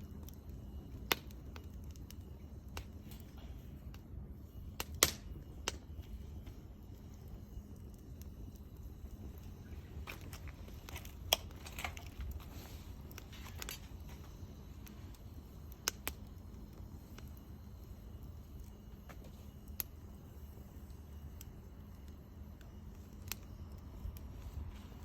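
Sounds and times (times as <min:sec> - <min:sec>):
sharp pops from fire: 0:00.0 - 0:25.0
wood fire crackling: 0:00.0 - 0:25.0.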